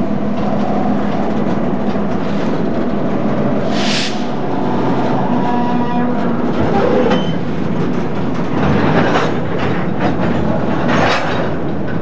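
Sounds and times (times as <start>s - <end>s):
freight train wheels rumbling: 0.0s - 12.0s
wheels clanking over rail joints: 0.0s - 12.0s.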